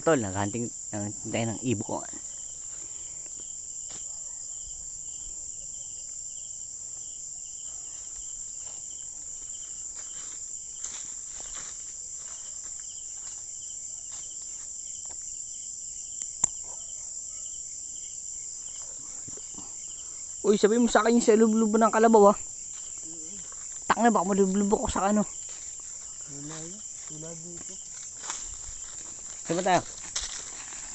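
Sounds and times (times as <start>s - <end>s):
low pulsing insect call: 0.0s - 30.9s
night insects chirring: 0.0s - 30.9s.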